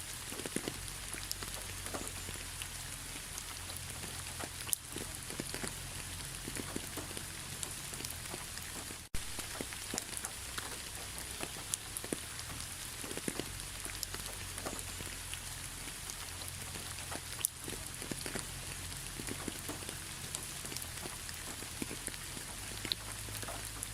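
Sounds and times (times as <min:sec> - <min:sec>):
raindrops ticking close by: 0:00.0 - 0:23.9
steady rain falling: 0:00.0 - 0:23.9.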